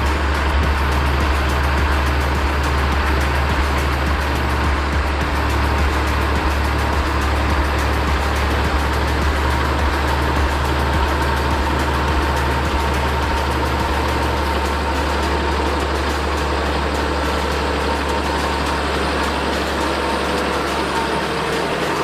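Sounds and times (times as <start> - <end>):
tractor engine idling: 0.0 - 22.0.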